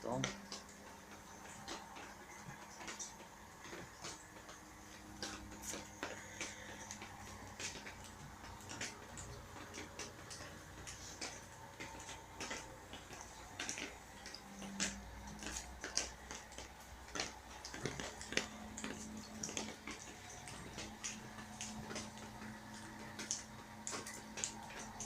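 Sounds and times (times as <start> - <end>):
rainwater dripping: 0.0 - 25.0.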